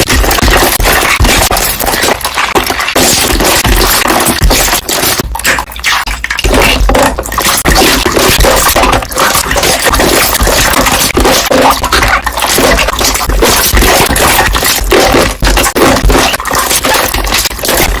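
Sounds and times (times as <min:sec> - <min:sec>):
slime air bubbles popping: 0:00.0 - 0:18.0.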